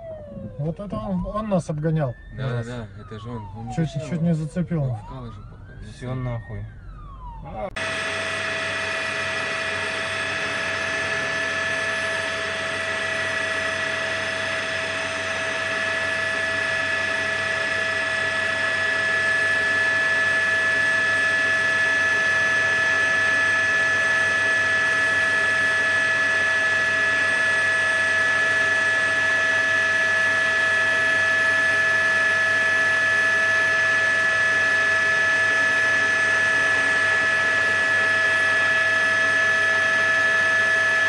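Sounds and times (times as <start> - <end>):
helicopter turbine engine whine: 0.0 - 41.0.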